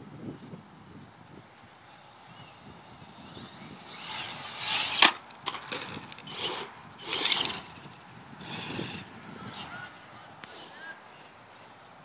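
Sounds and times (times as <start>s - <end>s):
electric motor whining: 1.9s - 11.7s
tyres spinning and spraying dirt: 2.2s - 12.0s.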